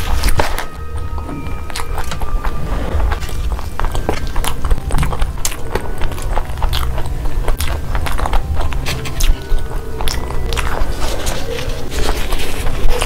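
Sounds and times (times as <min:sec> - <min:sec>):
background music: 0:00.0 - 0:13.0
person crunching crispy food: 0:00.0 - 0:13.0.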